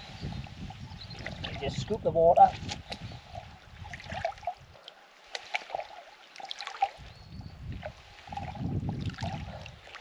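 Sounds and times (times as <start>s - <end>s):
water splashing and gurgling: 0.0s - 10.0s.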